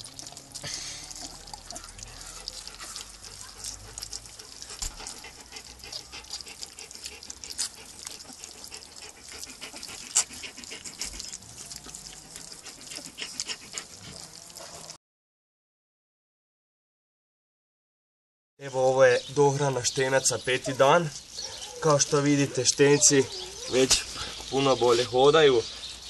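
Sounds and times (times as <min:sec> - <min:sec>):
puppies smacking and chewing: 0:00.0 - 0:15.0, 0:18.8 - 0:26.0.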